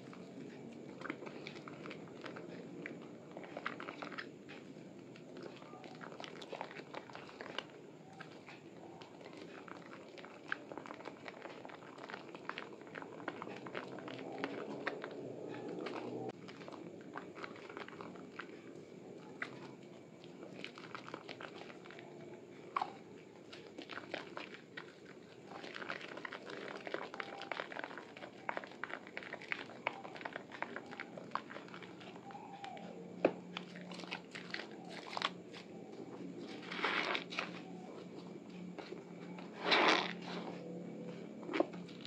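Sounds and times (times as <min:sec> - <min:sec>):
foam bubbles crackling: 0:00.0 - 0:42.0
hands squishing soap lather: 0:00.0 - 0:42.0.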